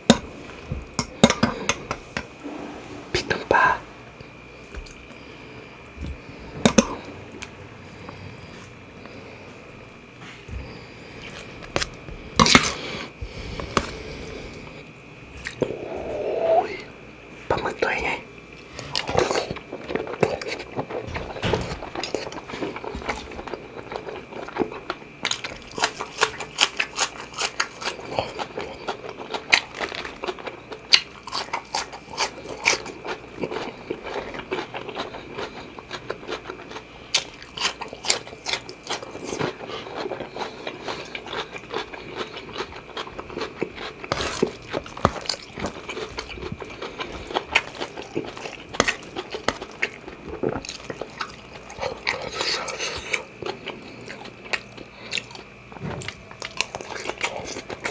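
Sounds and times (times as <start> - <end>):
close chewing and smacking: 4.2 - 9.6, 10.2 - 15.8, 17.8 - 57.9.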